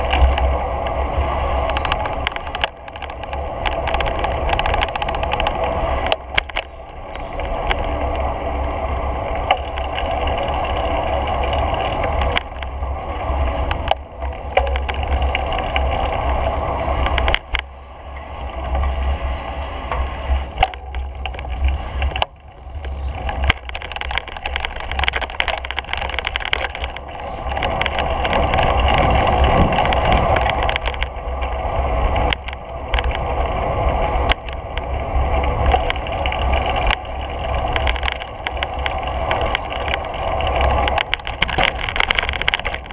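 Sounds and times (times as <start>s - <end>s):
wheels rolling on paved path: 0.0s - 42.9s
wind buffeting the microphone: 0.0s - 42.9s.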